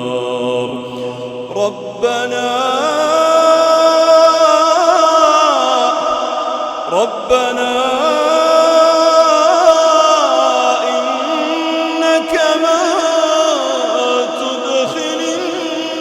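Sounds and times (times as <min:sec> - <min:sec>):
person reciting melodically: 0:00.0 - 0:16.0.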